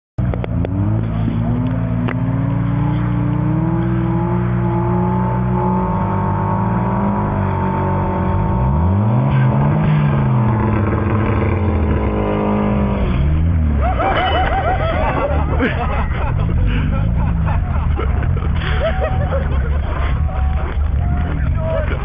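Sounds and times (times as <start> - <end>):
car engine revving hard: 0.4 - 20.6.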